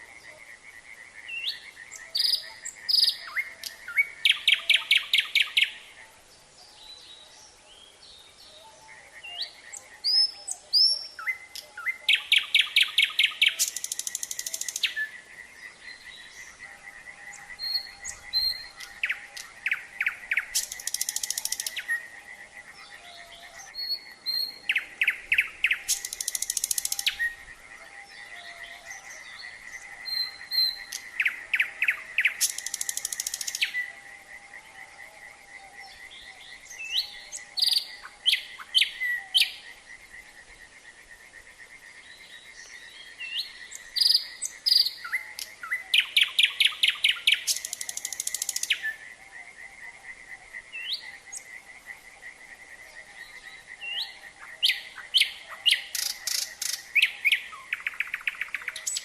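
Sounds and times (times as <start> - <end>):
frogs trilling: 0.0 - 6.2, 8.6 - 59.0
nightingale singing: 0.0 - 59.0.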